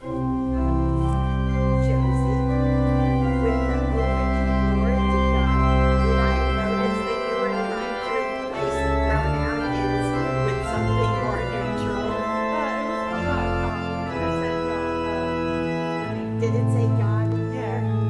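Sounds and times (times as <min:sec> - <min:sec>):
deep organ bass notes: 0:00.0 - 0:18.0
organ playing chords: 0:00.0 - 0:18.0.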